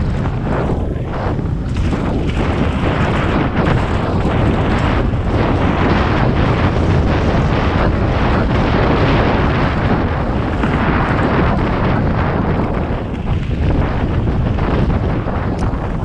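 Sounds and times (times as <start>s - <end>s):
bike jolts and rattles: 0.0s - 16.0s
bike tyres rumbling on gravel: 0.0s - 16.0s
wind rushing over microphone: 0.0s - 16.0s.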